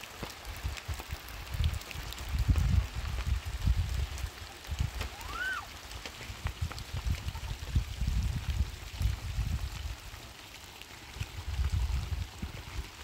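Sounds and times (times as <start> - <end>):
rain pattering: 0.0 - 13.0
wind rumbling on microphone: 0.0 - 13.0.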